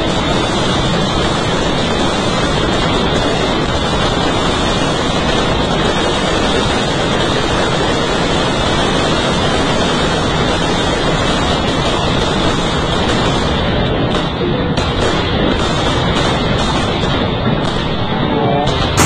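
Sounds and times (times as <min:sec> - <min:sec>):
firecrackers crackling: 0:00.0 - 0:19.0.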